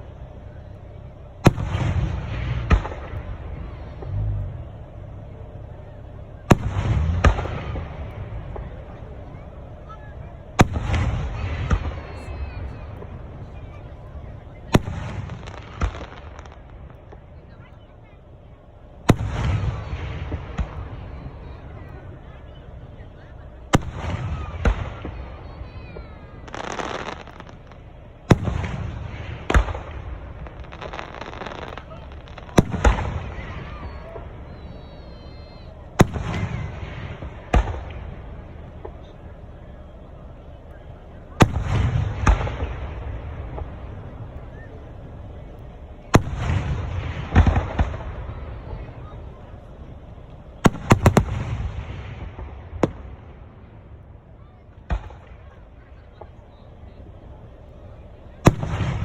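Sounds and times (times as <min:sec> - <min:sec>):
fireworks booms: 0:00.0 - 0:59.0
fireworks hissing crackle: 0:00.0 - 0:59.0
low rumble: 0:00.0 - 0:59.0.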